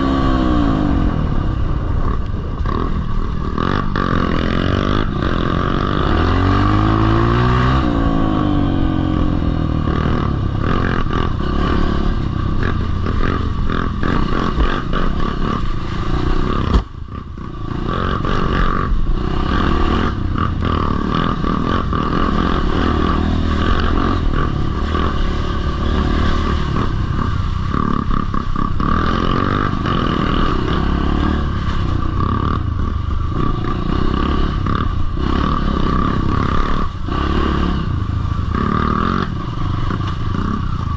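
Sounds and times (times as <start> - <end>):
bike rattling and scraping: 0.0 - 40.9
motocross bike engine revving: 0.0 - 40.9.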